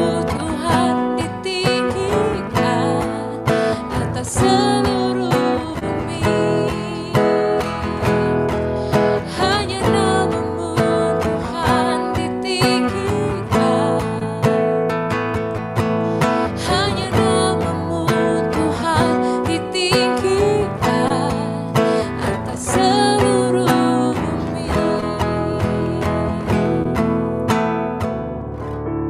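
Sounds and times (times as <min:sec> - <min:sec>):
strummed acoustic guitar: 0:00.0 - 0:29.0.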